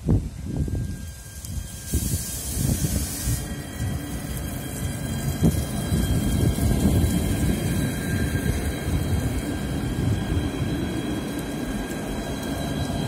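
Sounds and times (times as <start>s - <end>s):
faint whining tones: 0.0s - 13.0s
tram wheels rumbling: 0.0s - 13.0s.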